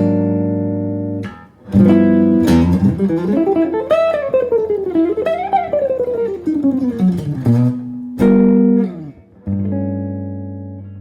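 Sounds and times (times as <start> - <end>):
guitar chord ringing: 0.0 - 10.9.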